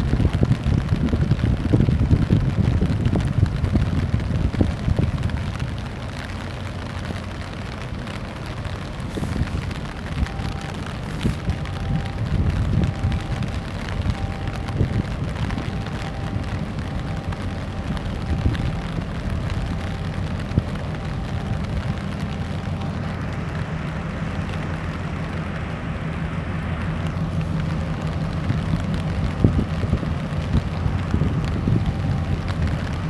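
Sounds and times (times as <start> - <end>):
ship engine drone: 0.0 - 33.0
wind and rain noise: 0.0 - 33.0.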